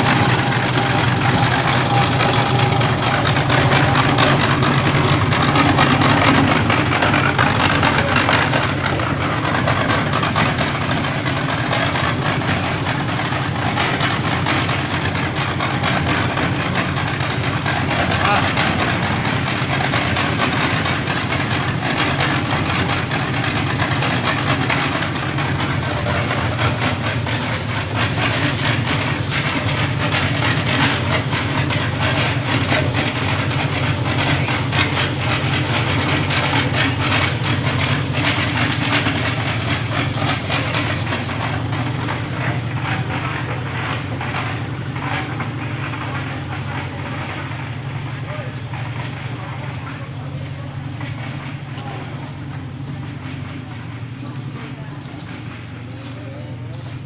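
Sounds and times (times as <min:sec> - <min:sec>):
engine running: 0:00.0 - 0:57.0
rapid clattering rattle: 0:00.0 - 0:57.0.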